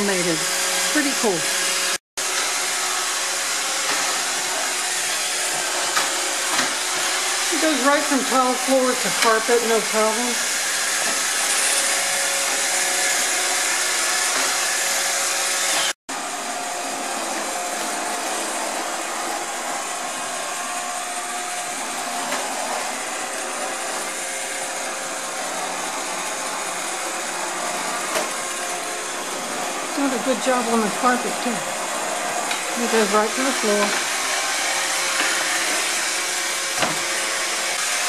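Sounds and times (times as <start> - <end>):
robot vacuum whirring: 0.0 - 15.9, 16.5 - 38.0.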